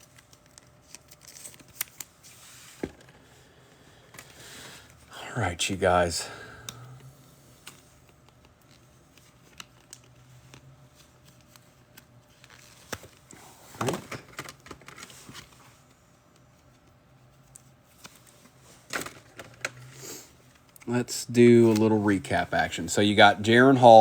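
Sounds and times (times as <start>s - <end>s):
cards rustling: 0.0s - 5.0s, 7.5s - 16.9s, 17.6s - 24.0s.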